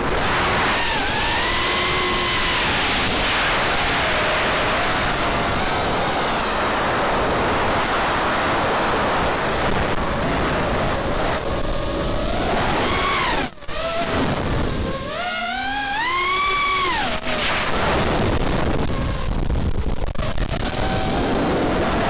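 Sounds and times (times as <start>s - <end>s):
faint motor whine: 0.0s - 22.0s
propeller wind rushing: 0.0s - 22.0s.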